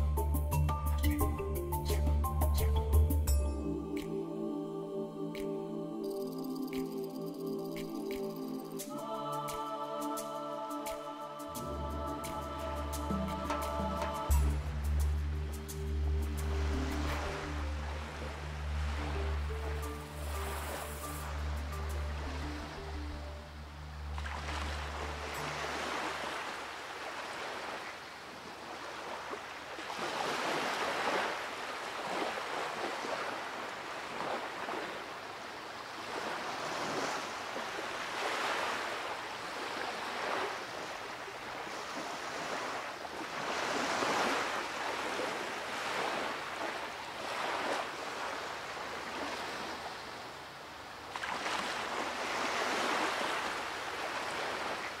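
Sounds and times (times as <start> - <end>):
waves breaking on beach: 4.7 - 55.0.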